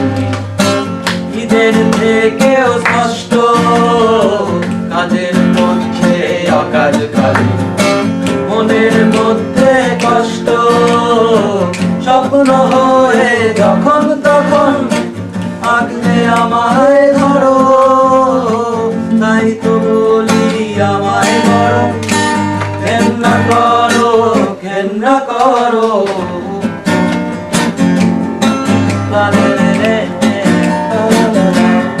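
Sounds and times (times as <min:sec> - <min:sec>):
person singing: 0:00.0 - 0:07.6, 0:08.3 - 0:22.1, 0:22.8 - 0:27.1, 0:28.7 - 0:32.0
acoustic guitar strumming: 0:00.0 - 0:32.0.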